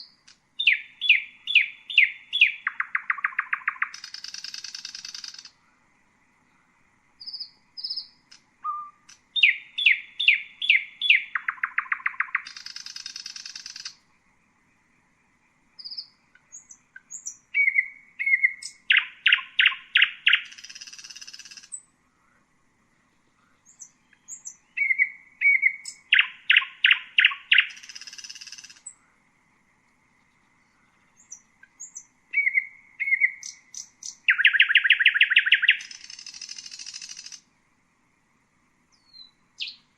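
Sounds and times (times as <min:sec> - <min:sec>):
nightingale singing: 0:00.0 - 0:37.5, 0:38.8 - 0:39.9.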